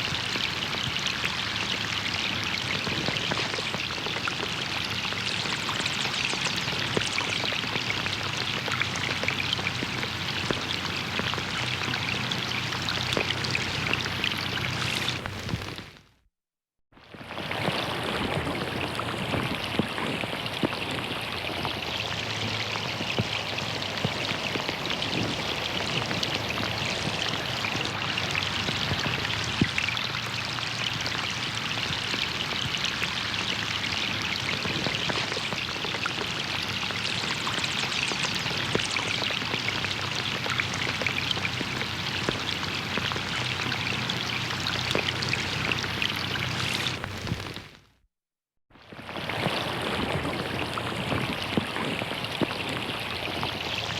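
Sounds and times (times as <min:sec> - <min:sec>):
rain falling on a pond: 0:00.0 - 0:16.1, 0:17.0 - 0:47.9, 0:48.8 - 0:53.9.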